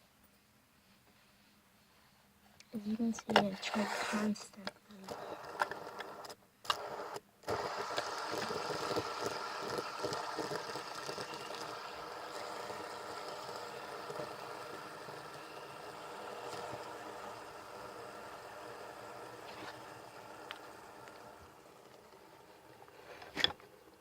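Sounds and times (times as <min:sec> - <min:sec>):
fidget spinner bearing whirring: 0:03.0 - 0:24.0
fidget spinner clicks: 0:04.6 - 0:24.0.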